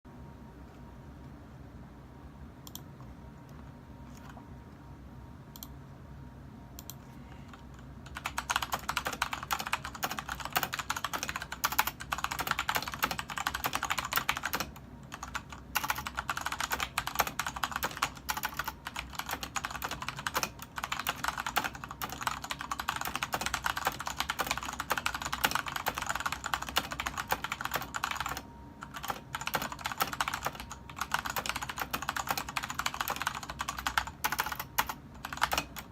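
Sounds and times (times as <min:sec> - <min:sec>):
typing on mechanical keyboard: 0:06.8 - 0:35.9.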